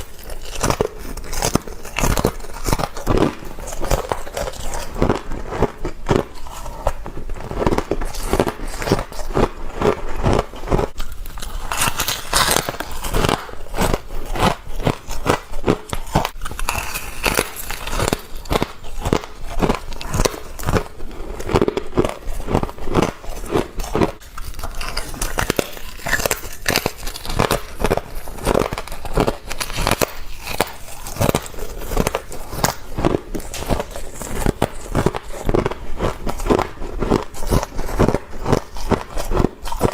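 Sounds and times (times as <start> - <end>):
person chewing ice crunching: 0.0 - 39.9.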